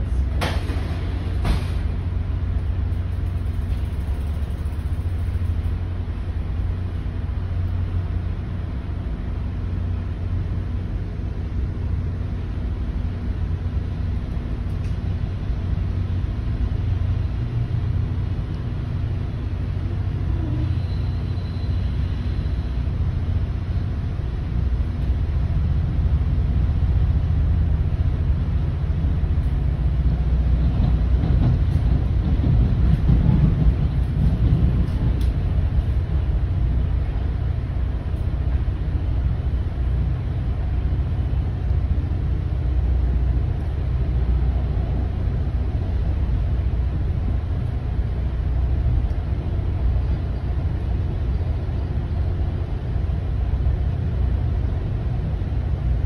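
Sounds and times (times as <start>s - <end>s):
train running noise from inside coach: 0.0s - 56.0s.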